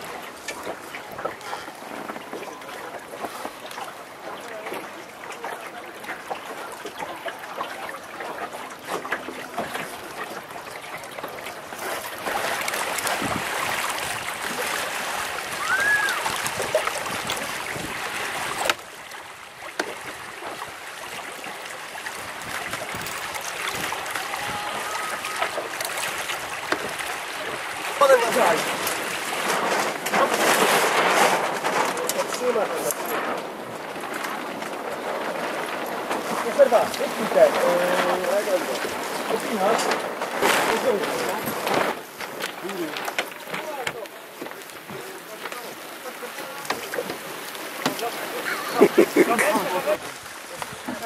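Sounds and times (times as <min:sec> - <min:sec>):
water splashing along a hull: 0:00.0 - 0:51.0.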